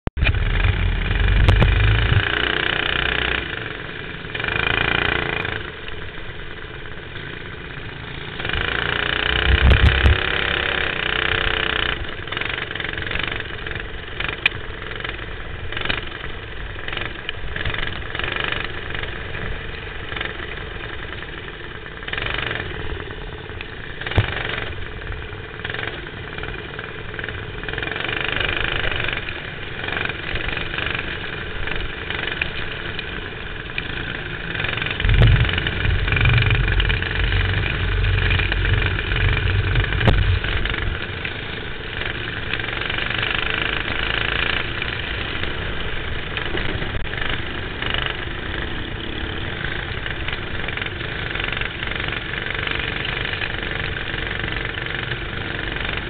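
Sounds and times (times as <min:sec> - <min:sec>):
kart engine revving: 0:00.2 - 0:05.8, 0:07.3 - 0:56.0.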